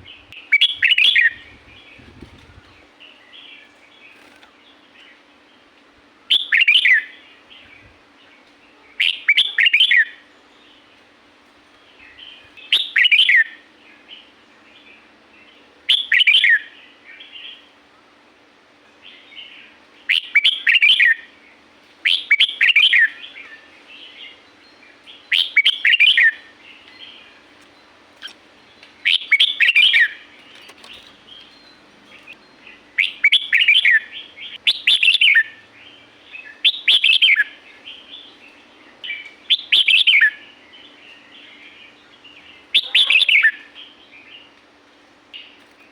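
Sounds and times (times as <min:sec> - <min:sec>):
bird singing warbled phrases: 0:00.0 - 0:05.6, 0:06.3 - 0:10.9, 0:11.9 - 0:17.8, 0:19.0 - 0:44.6.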